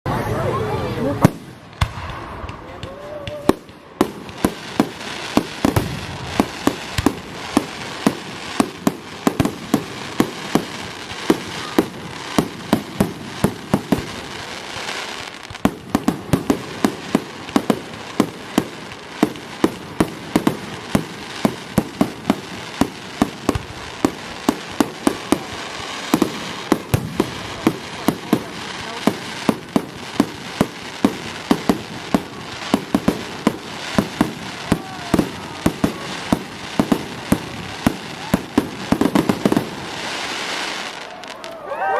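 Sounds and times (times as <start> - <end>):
fireworks bangs: 0.3 - 41.7.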